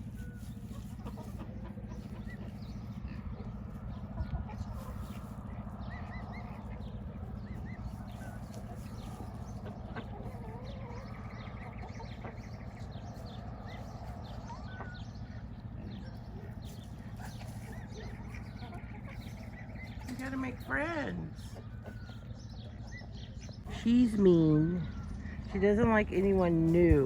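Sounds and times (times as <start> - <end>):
poultry chirping and clucking: 0.0 - 27.0
steady low hum: 0.0 - 27.0.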